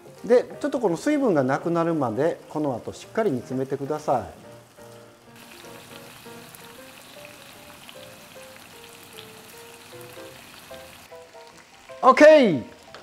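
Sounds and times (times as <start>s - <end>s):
light background music: 0.0s - 13.0s
vegetables sizzling in a pan: 1.2s - 13.0s.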